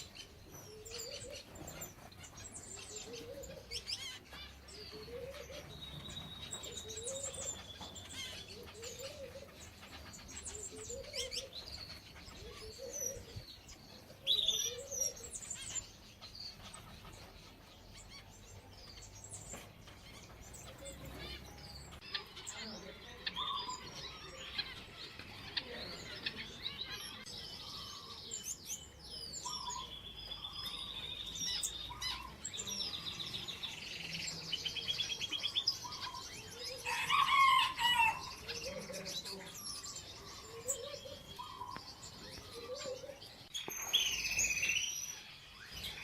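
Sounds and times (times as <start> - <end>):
finches chirping and trilling: 0.0 - 46.0.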